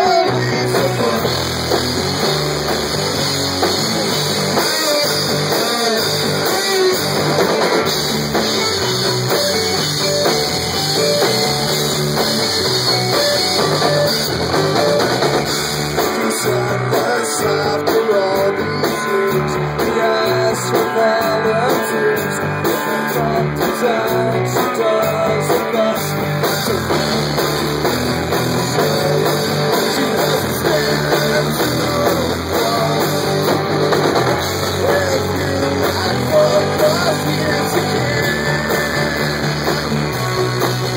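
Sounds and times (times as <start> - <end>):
person singing: 0.0 - 1.5, 4.5 - 11.7, 14.8 - 27.0, 28.4 - 33.7, 34.4 - 40.9
drum kit: 0.0 - 40.9
electric guitar: 0.0 - 40.9.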